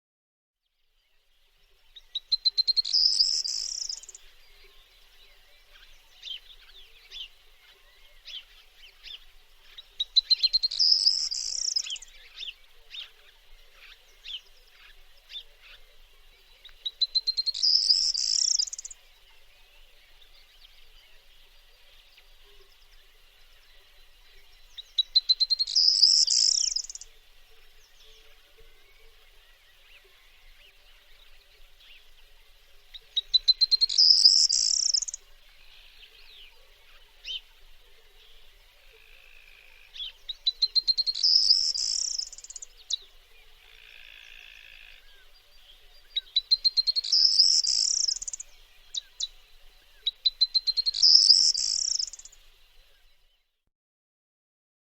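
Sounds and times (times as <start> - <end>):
faint bird chirps: 0.7 - 53.7.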